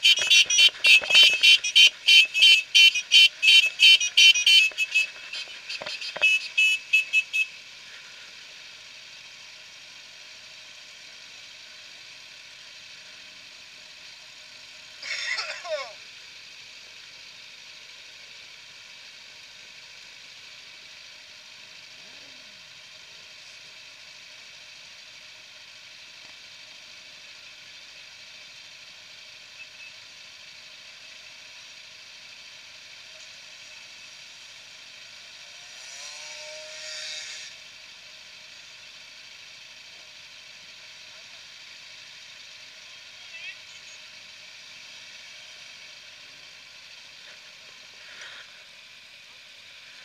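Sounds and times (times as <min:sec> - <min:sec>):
faint outdoor hiss: 0:00.0 - 0:50.0.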